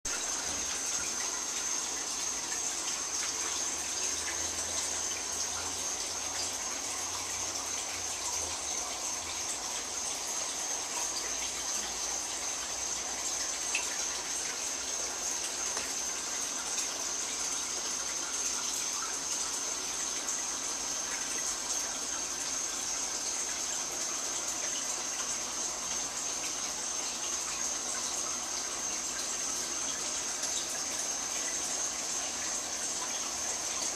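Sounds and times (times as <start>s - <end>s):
running water rushing: 0.1s - 33.9s.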